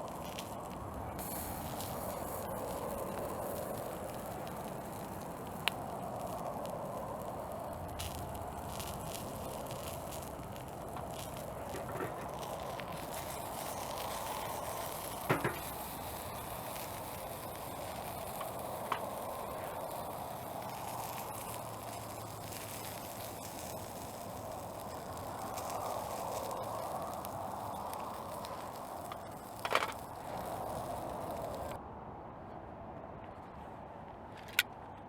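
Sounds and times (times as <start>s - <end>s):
fire crackling pops: 0.0s - 31.8s
wood fire hissing in a stove: 0.0s - 31.8s.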